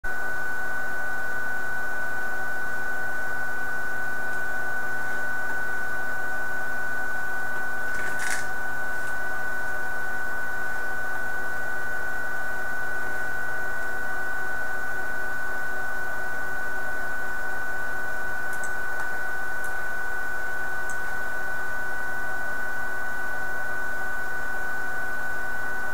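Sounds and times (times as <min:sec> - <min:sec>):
router high-pitched whine: 0:00.1 - 0:25.9.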